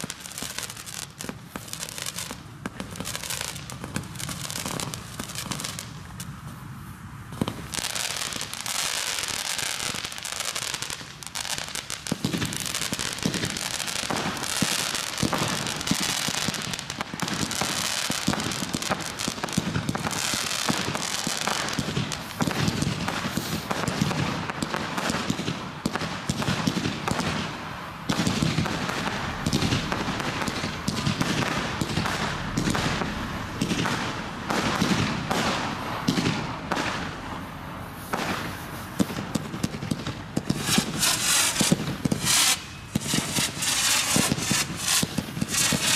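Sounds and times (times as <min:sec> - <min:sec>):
fireworks popping and crackling: 0:00.0 - 0:45.9.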